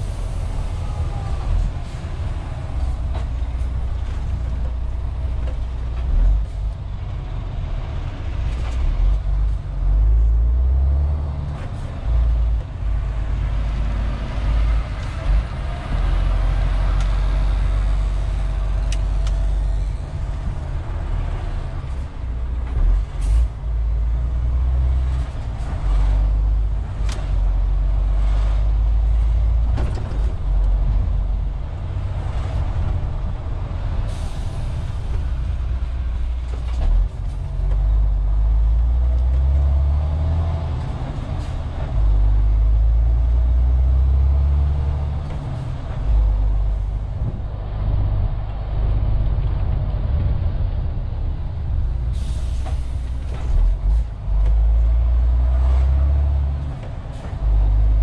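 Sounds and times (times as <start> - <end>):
road noise: 0.0 - 58.0
truck diesel engine rumble: 0.0 - 58.0.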